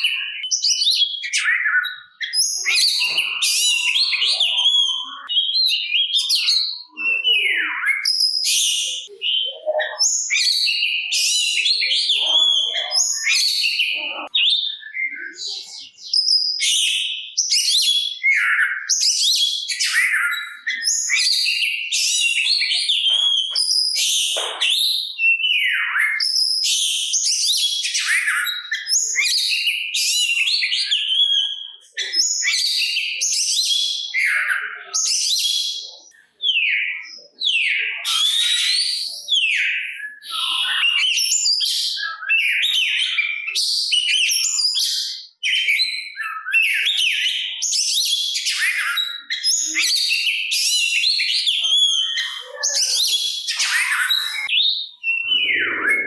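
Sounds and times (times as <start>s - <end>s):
bird singing whistles and chirps: 0.0s - 56.0s.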